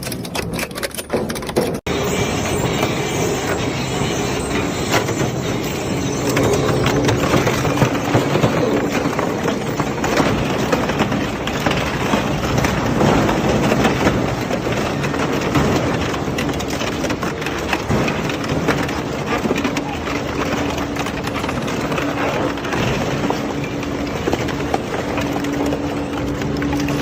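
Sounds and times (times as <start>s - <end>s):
shredder cracking and crunching: 0.0s - 27.0s
machine hum: 1.9s - 27.0s.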